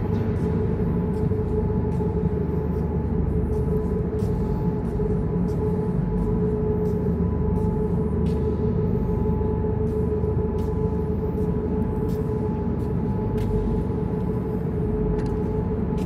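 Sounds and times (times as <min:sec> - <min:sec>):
machine rumble and hum: 0:00.0 - 0:16.0.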